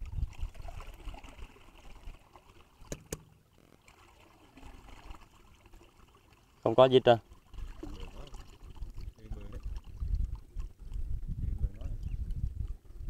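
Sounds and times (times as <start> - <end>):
water trickling and sloshing: 0.0 - 13.0.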